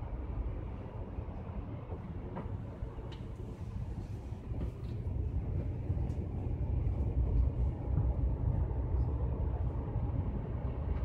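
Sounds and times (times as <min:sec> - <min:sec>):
train rumbling from inside: 0:00.0 - 0:11.0.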